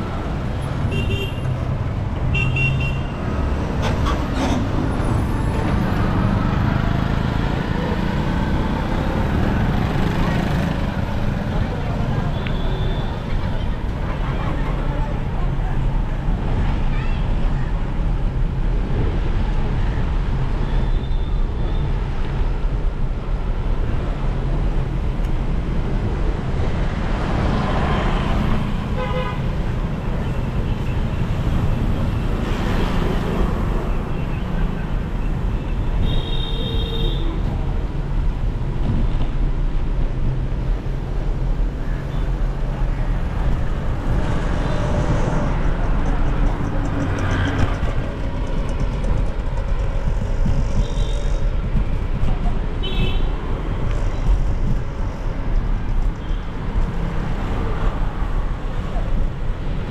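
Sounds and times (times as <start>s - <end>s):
rumble of engines and tyres: 0.0s - 59.9s.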